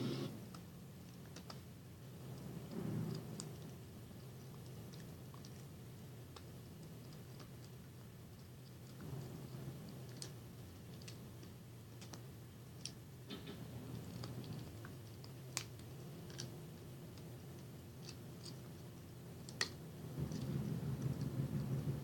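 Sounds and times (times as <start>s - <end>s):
low steady hum: 0.0s - 22.0s
dogs gnawing on bones: 0.6s - 13.0s, 13.6s - 21.7s.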